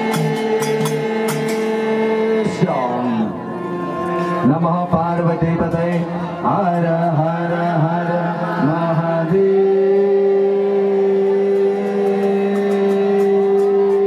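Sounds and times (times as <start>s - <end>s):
man chanting: 0.6s - 14.0s.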